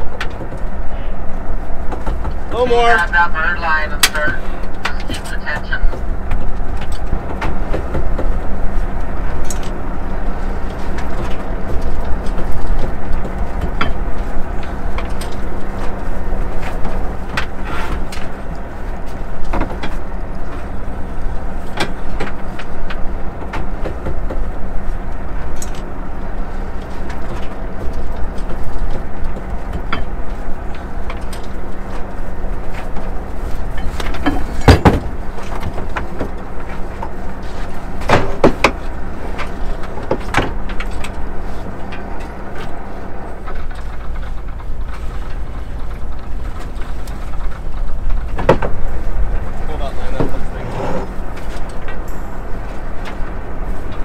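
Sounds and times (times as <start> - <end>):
boat engine rumbling: 0.0 - 54.0.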